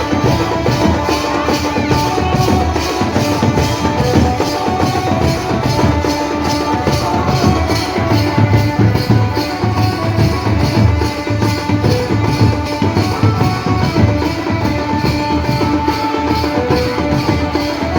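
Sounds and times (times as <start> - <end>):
cymbals: 0.0 - 17.9
steady drum beat: 0.0 - 17.9
village band playing dance tune: 0.0 - 17.9.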